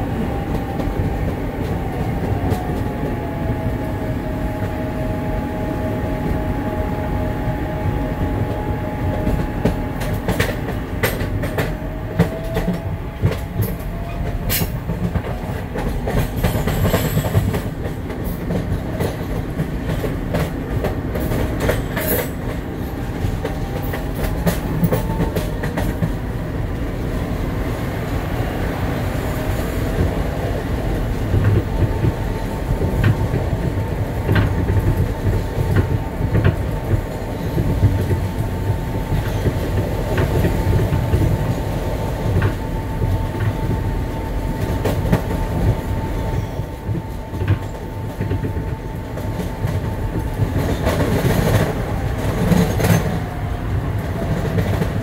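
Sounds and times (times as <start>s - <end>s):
subway wheels rumbling on rail: 0.0s - 55.0s.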